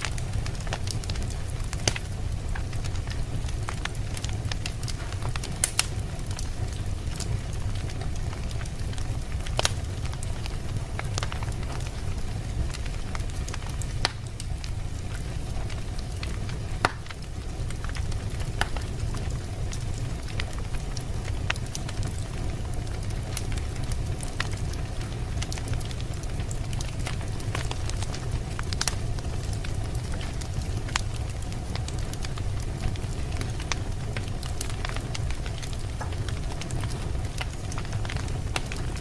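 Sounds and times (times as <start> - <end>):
fire crackling and popping: 0.0 - 39.0
fire low rumble: 0.0 - 39.0.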